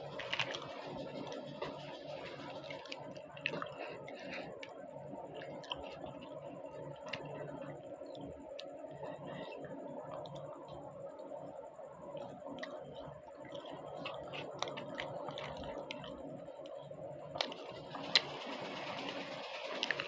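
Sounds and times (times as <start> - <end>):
person chewing food: 0.0 - 10.8, 12.2 - 18.4
steady background hum: 0.0 - 20.0.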